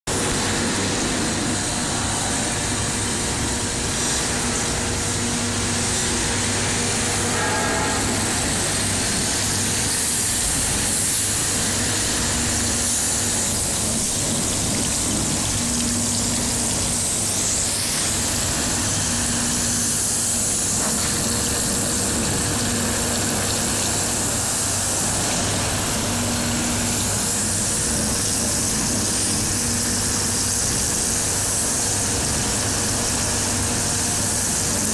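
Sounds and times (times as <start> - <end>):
compressor grinding: 0.1 - 34.9.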